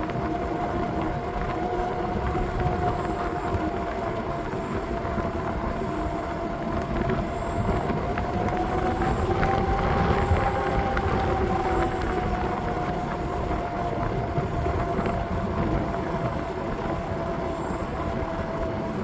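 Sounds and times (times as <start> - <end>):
bike whine: 0.0 - 19.0
wind rumble on microphone: 0.0 - 19.0.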